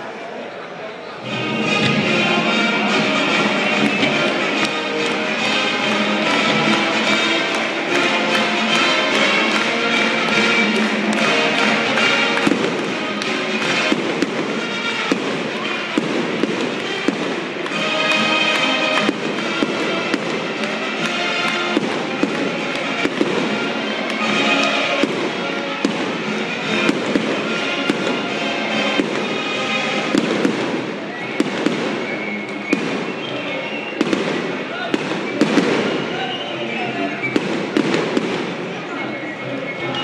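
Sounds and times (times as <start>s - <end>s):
fireworks bangs and crackles: 1.2s - 36.4s, 37.2s - 38.9s
music playing: 1.2s - 40.0s.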